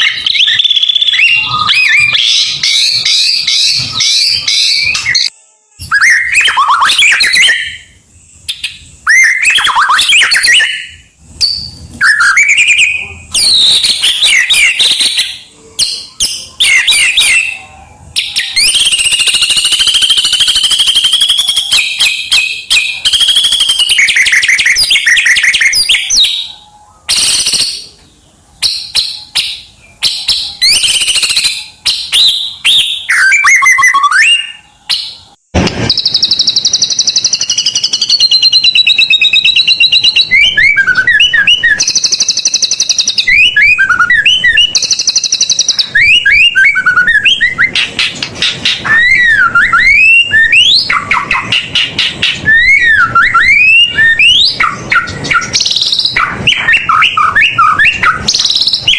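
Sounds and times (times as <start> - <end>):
songbird singing loudly: 0.0 - 58.9.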